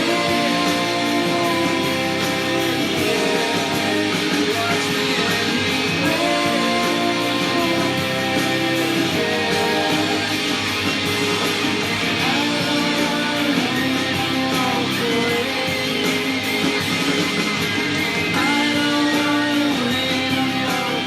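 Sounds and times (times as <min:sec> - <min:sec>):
alternative rock song with guitars: 0:00.0 - 0:21.0.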